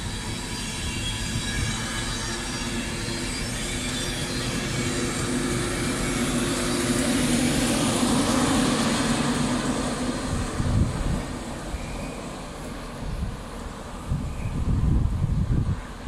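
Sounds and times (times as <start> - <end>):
electric locomotive hum: 0.0 - 16.0
train coaches rolling by: 0.0 - 16.0.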